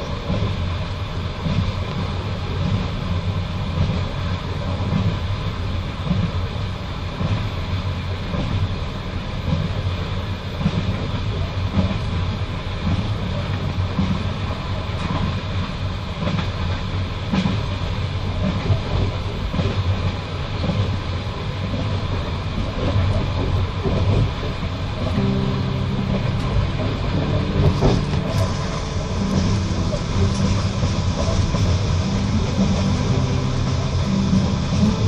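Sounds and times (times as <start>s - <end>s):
train running gear rumbling: 0.0s - 35.0s.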